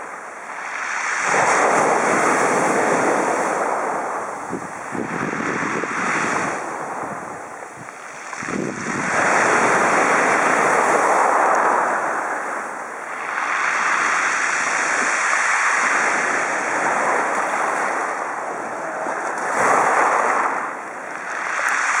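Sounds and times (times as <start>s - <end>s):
waves washing over pebbles: 0.0s - 22.0s.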